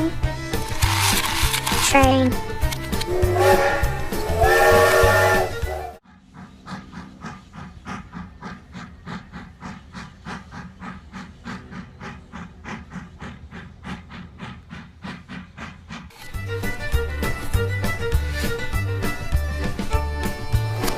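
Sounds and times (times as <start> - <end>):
steam train chugging: 0.0 - 20.9.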